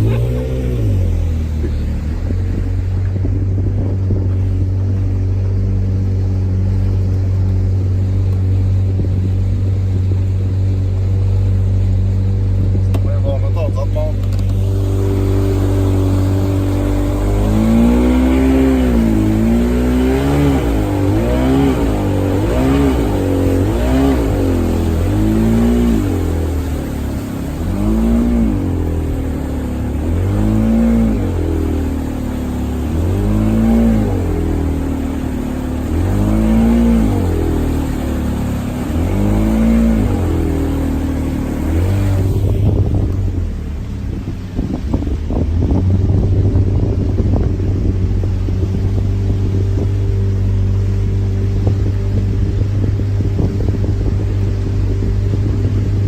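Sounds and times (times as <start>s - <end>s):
speedboat engine revving: 0.0s - 56.0s.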